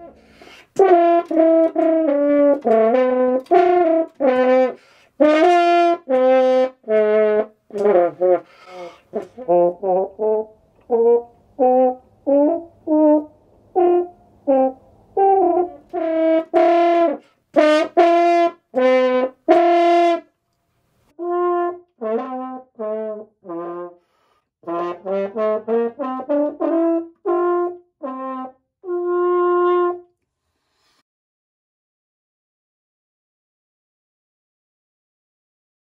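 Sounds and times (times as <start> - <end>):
french horn playing notes: 0.0 - 20.3, 21.1 - 30.1.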